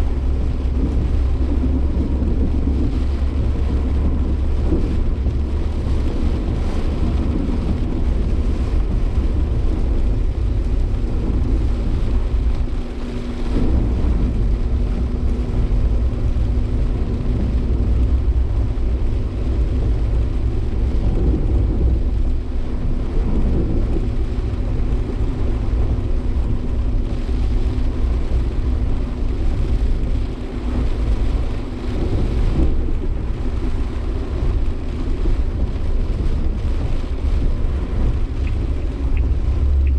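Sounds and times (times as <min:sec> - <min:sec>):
car engine drone from cabin: 0:00.0 - 0:39.9
road rumble: 0:00.0 - 0:39.9.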